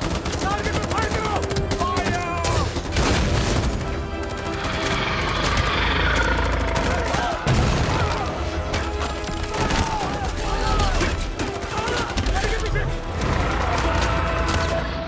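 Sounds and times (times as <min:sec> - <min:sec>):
machine-gun fire: 0:00.0 - 0:14.9
dramatic score music: 0:00.0 - 0:15.0.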